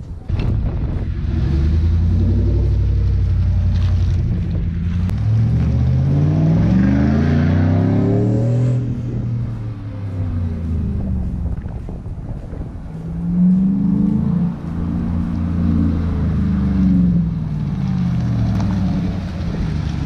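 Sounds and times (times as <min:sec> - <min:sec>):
truck exhaust under acceleration: 0:00.0 - 0:20.0.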